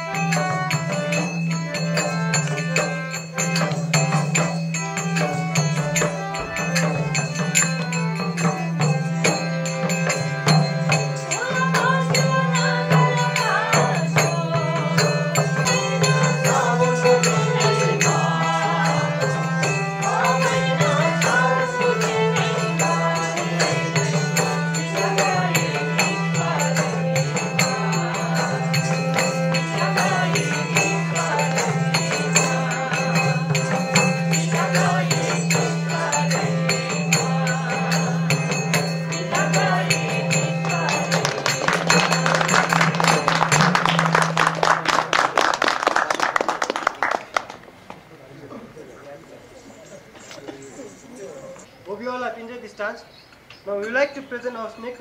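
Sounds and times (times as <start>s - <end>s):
folk singing: 0.0s - 45.0s
hand drum and percussion beat: 0.0s - 47.4s.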